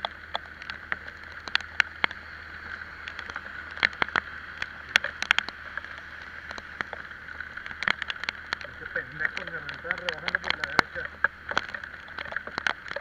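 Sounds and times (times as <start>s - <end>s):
hiss of wet road and wind: 0.0s - 13.0s
raindrops tapping camera: 0.0s - 13.0s.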